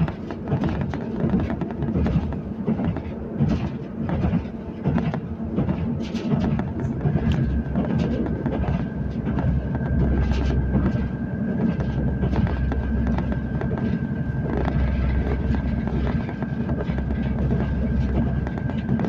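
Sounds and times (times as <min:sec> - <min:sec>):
high whine: 0:00.0 - 0:19.0
rattles and clicks of train wheels: 0:00.0 - 0:19.0
train rumble: 0:00.0 - 0:19.0.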